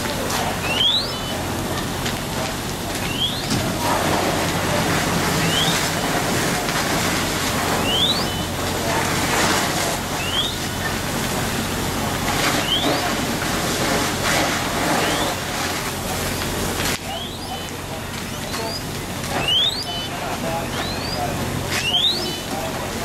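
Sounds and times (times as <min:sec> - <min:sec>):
fire rushing: 0:00.0 - 0:23.0
hose streams spraying: 0:00.0 - 0:23.0.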